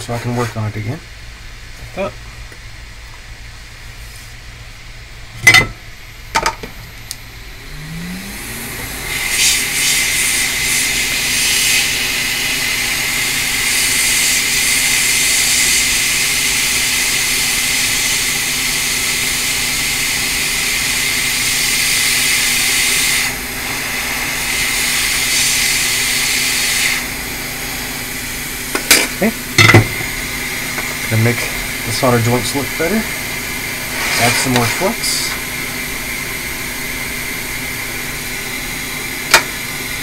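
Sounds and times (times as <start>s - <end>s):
hot air station blowing hiss: 7.6s - 40.0s.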